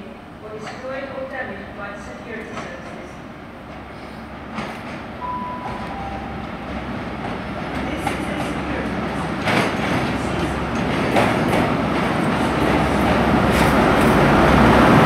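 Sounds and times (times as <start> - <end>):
diesel train approaching: 0.1 - 15.0.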